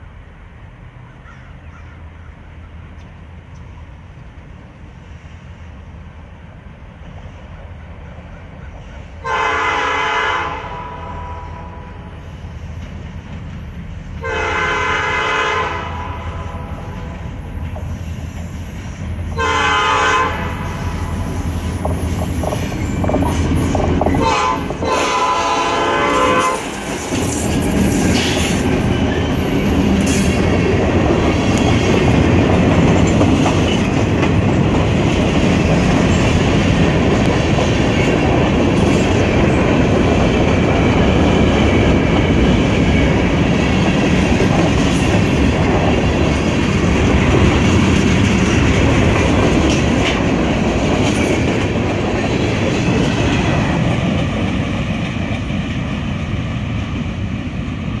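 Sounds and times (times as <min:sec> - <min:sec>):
freight train rolling by: 0:00.0 - 0:58.0.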